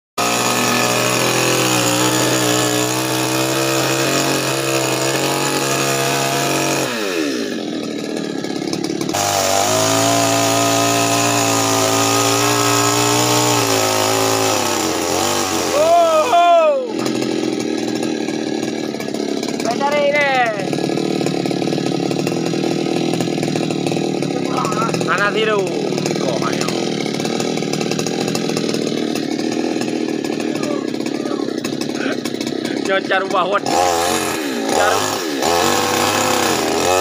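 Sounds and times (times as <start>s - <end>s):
small chainsaw engine revving: 0.2s - 37.0s.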